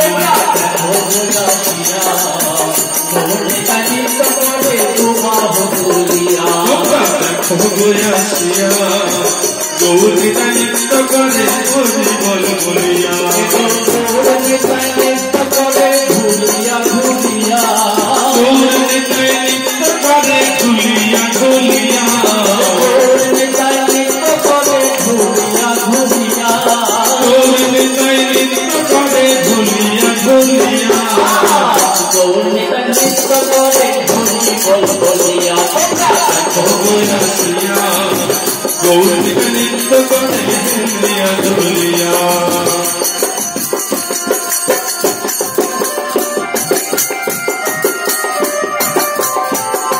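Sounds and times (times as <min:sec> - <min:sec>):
jingling hand percussion: 0:00.0 - 0:49.9
men singing devotional melody: 0:00.0 - 0:49.9.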